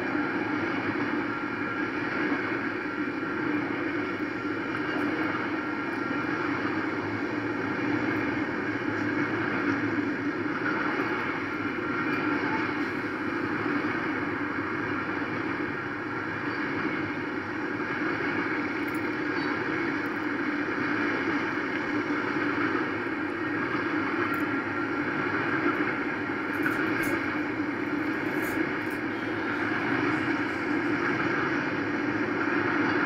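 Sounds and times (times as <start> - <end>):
freight train rumbling on rails: 0.0 - 33.0.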